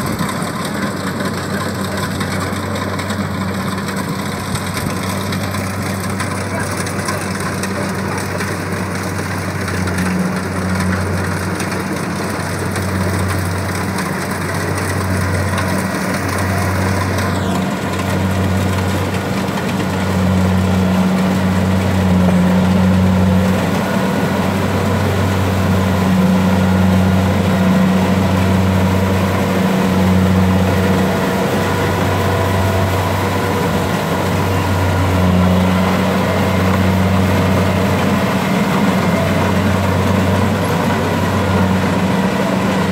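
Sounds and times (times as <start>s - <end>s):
combine harvester running: 0.0s - 42.9s.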